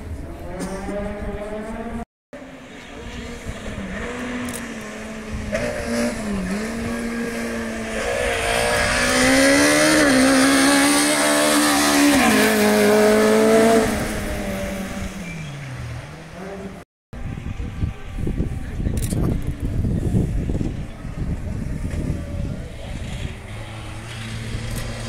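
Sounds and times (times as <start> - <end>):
rally car engine revving: 0.1 - 16.8, 17.5 - 25.0.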